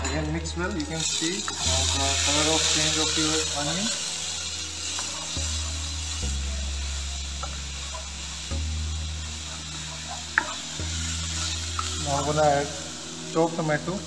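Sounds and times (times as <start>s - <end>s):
onion sizzling in a pan: 0.0s - 14.0s.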